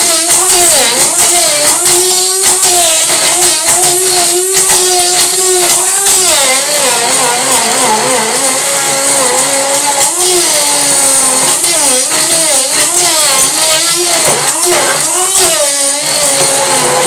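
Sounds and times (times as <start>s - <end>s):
stick blender motor whine: 0.0s - 17.0s.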